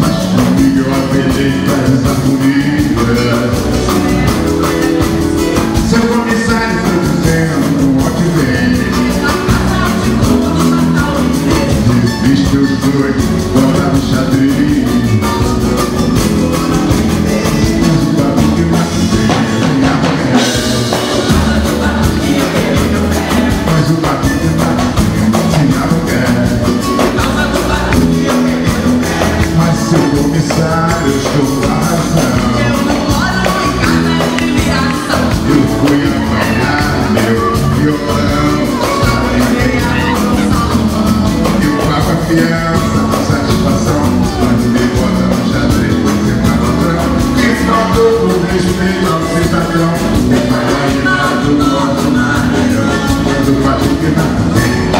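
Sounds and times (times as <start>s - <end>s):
man singing into microphone: 0.0s - 54.9s
samba band playing: 0.0s - 54.9s.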